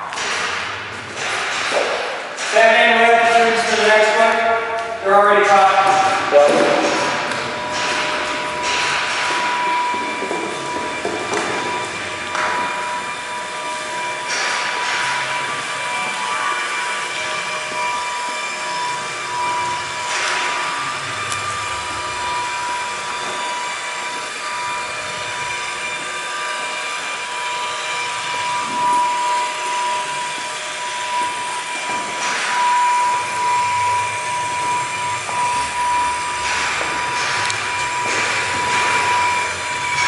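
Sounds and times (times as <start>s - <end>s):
high whine: 0.0s - 40.0s.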